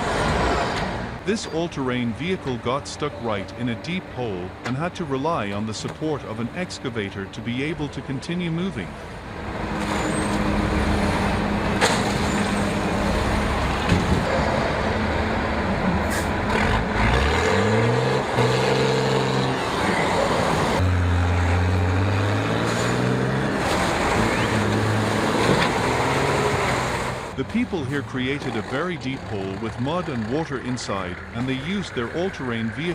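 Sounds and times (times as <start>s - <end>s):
heavy diesel engines under load: 0.0s - 32.9s.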